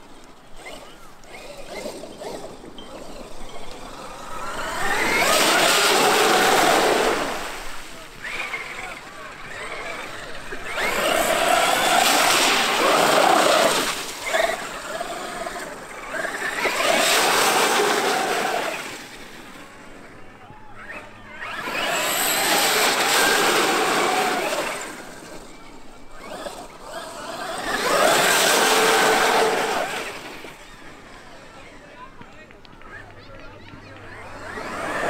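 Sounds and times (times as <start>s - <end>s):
electric toy truck motor whining: 0.0s - 31.8s, 34.0s - 35.0s.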